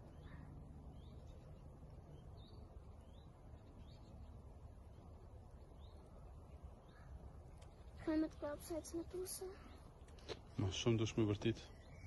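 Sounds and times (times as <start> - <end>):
faint bird chirps: 0.0 - 12.0
low outdoor rumble: 0.0 - 12.0.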